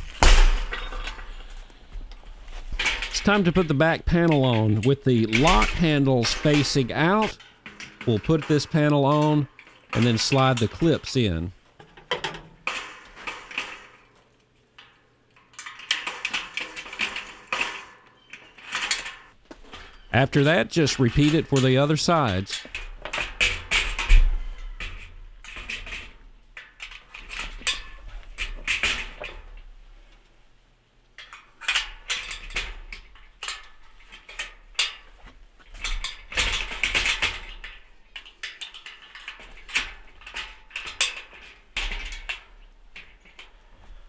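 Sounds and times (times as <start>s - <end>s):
mesh panels clanking on metal frame: 0.0s - 29.7s, 31.2s - 44.0s.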